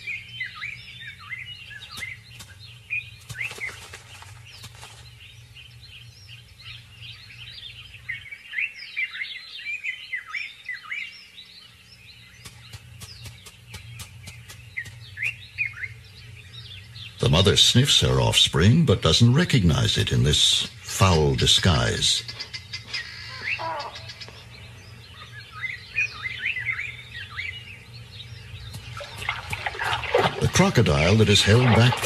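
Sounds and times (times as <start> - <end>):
low steady hum: 0.0 - 32.0
small birds chirping: 0.0 - 32.0.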